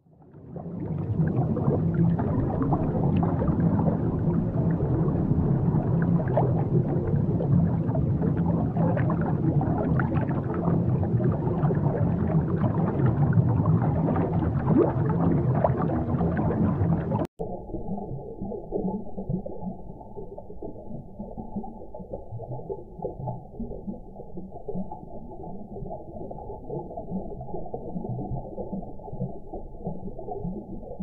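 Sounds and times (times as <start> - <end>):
bubbling gurgling water: 0.0 - 31.0
muffled underwater rumble: 0.0 - 31.0.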